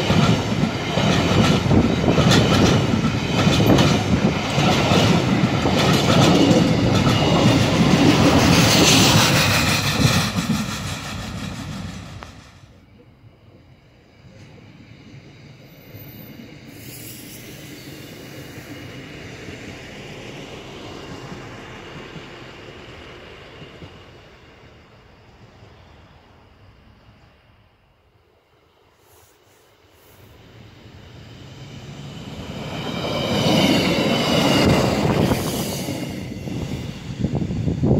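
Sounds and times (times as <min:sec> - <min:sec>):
diesel railcar passing: 0:00.0 - 0:37.9.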